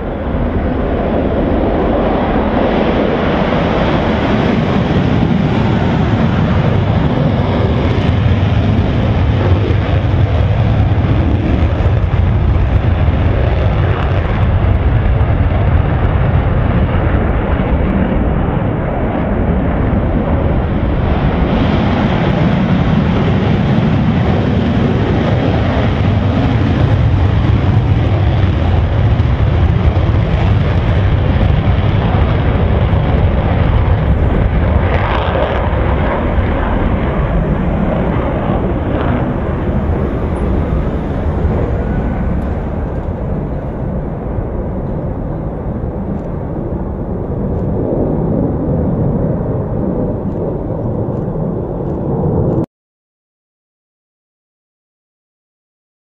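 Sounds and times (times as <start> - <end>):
jet fighter engine roar: 0.0 - 52.7.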